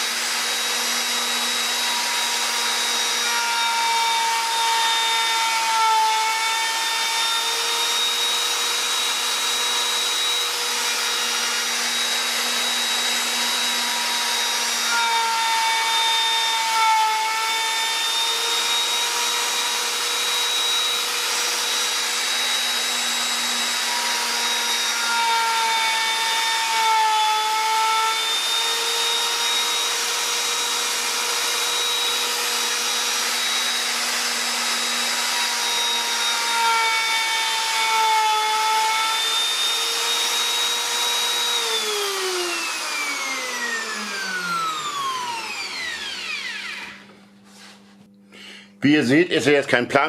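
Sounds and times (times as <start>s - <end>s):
router whining while cutting wood: 0.0s - 47.4s.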